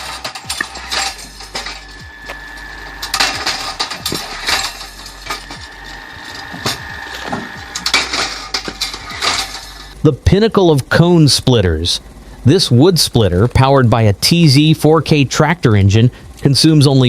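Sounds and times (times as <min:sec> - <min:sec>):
faint whine: 0:00.0 - 0:17.0
motor hum: 0:00.0 - 0:17.0.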